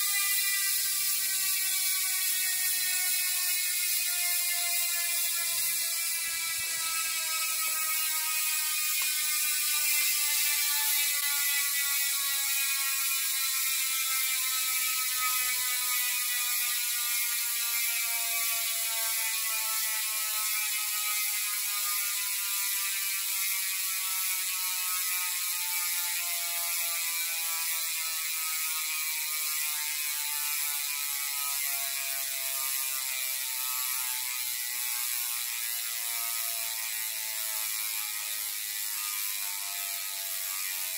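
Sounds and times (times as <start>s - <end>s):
bike freehub ratcheting: 0.0s - 40.9s.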